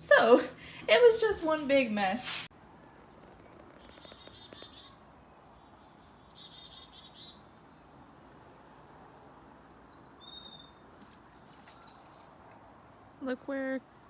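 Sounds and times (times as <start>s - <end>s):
birds chirping: 2.5s - 14.0s.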